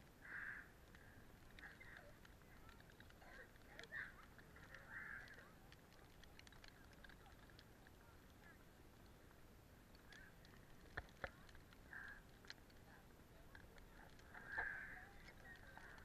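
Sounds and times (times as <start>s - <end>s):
sharp clicks: 0.2s - 16.0s.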